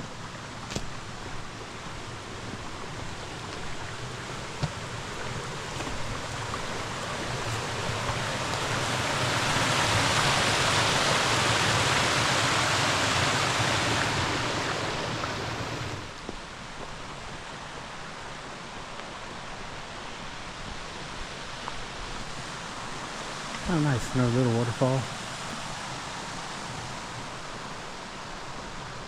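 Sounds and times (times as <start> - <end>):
water rushing over waterfall: 0.0 - 16.2, 21.8 - 29.0.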